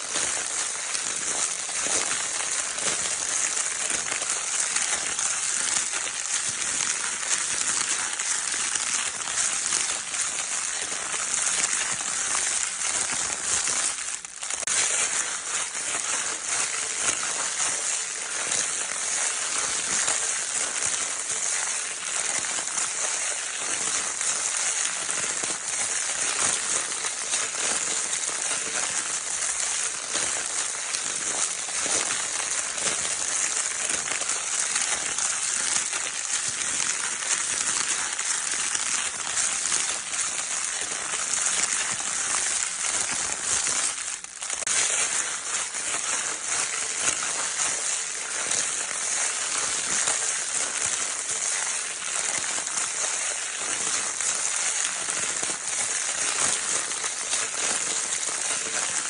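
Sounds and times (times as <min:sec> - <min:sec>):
crinkle paper toy crinkling: 0:00.0 - 0:59.0.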